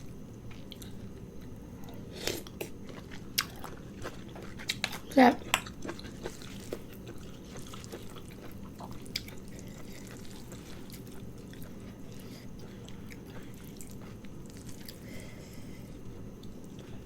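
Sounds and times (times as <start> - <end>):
steady low hum: 0.0 - 17.0
person chewing noodles: 0.5 - 17.0.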